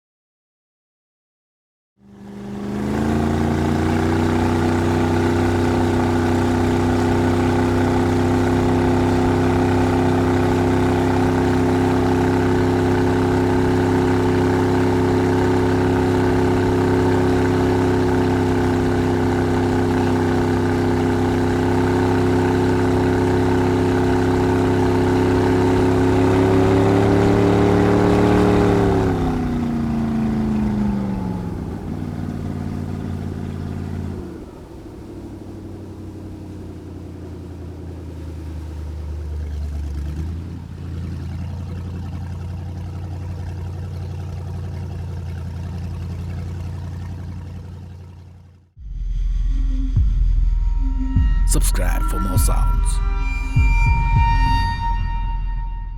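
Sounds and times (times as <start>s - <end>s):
motorboat engine running: 2.0s - 55.9s.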